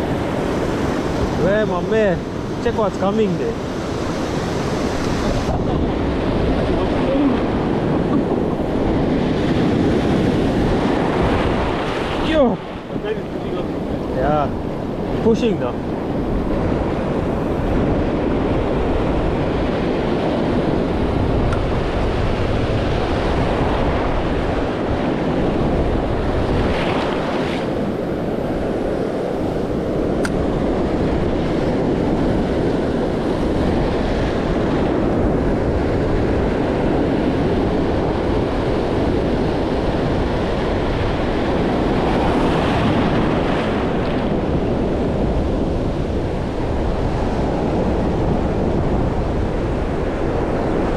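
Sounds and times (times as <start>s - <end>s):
ocean surf washing ashore: 0.0s - 50.9s
wind buffeting microphone: 0.0s - 50.9s.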